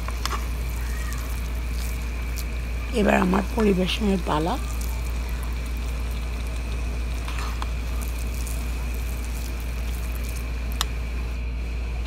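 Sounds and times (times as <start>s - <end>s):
faint high whine: 0.0s - 12.0s
steady low hum: 0.0s - 12.0s.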